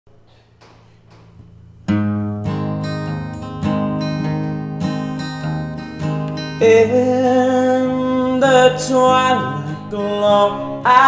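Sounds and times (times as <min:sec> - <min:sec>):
acoustic guitar strumming chords: 0:01.2 - 0:11.0.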